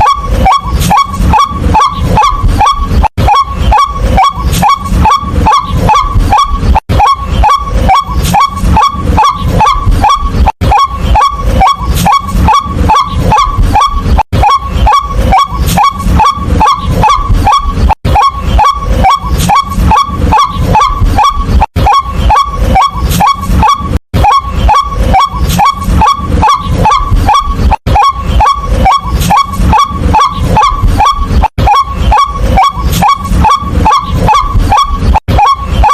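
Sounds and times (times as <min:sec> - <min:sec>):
waterhen harsh calls: 0:00.0 - 0:35.9.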